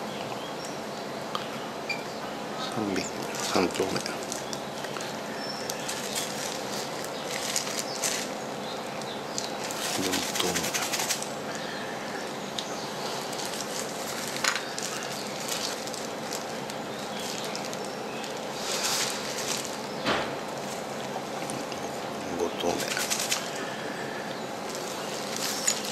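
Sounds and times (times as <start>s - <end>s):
plastic gloves rustling: 2.8s - 25.9s.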